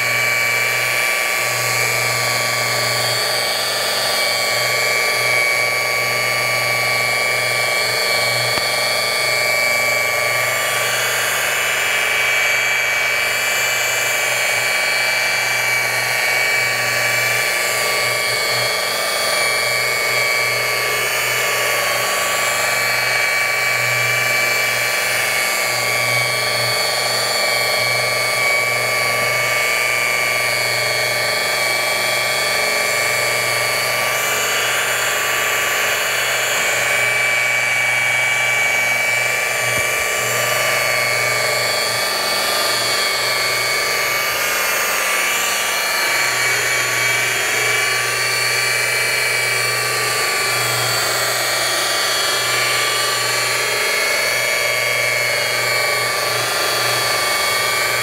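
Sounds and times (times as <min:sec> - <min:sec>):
rotary polisher motor whine: 0:00.0 - 0:58.0.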